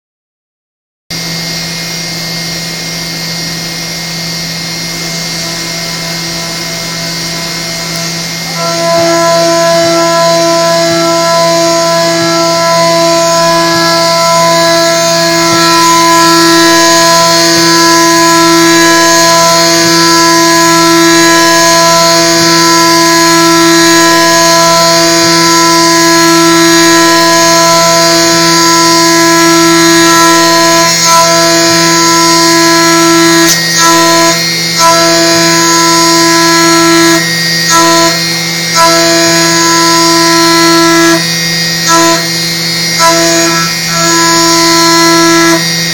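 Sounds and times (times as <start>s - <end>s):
mill cutting aluminium with pitched tone: 1.1s - 45.9s.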